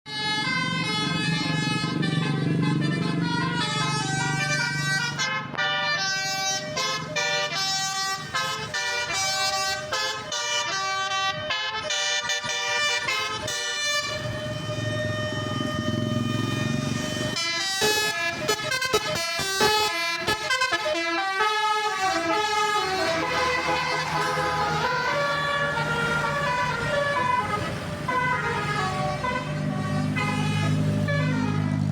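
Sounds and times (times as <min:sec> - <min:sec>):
bus engine running: 0:00.1 - 0:31.9
musical bus horn melody: 0:00.1 - 0:31.9.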